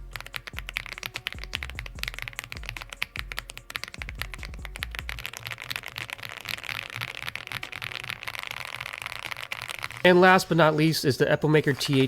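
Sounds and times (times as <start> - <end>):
fast mechanical keyboard typing: 0.0 - 10.8.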